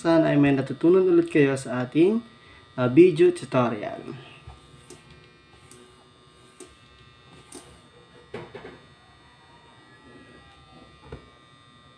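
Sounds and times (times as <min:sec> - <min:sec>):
electrical hum and buzz: 0:00.0 - 0:11.9.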